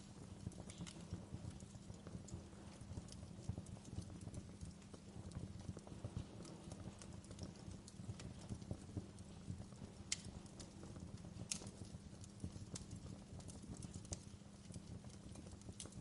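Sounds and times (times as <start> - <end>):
low steady rumble of fire: 0.0 - 16.0
wood fire crackling: 0.0 - 16.0.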